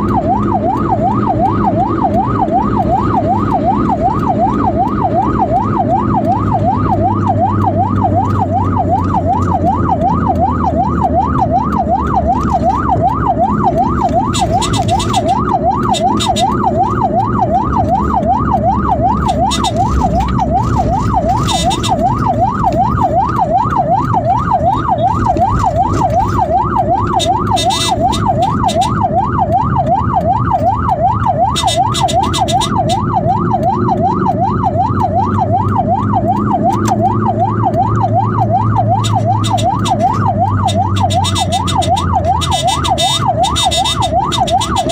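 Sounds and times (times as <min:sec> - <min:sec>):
ambulance siren yelping: 0:00.0 - 0:44.9
vehicle low rumble: 0:00.0 - 0:44.9.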